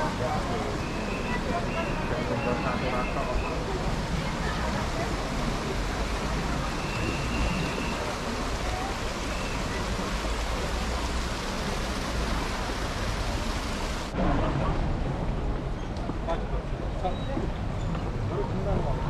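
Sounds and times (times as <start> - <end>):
water rushing in channel: 0.0 - 19.0.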